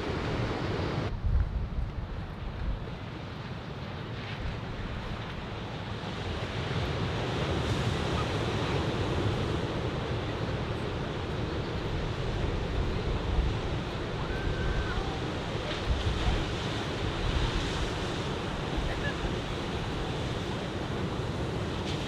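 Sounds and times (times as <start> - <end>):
wind buffeting microphone: 0.0 - 21.8
surf breaking on beach: 3.0 - 22.0.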